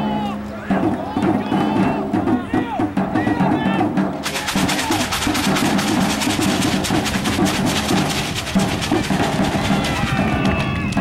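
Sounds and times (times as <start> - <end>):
pitched percussion tones: 0.0 - 11.0
fast drum strikes: 0.6 - 11.0.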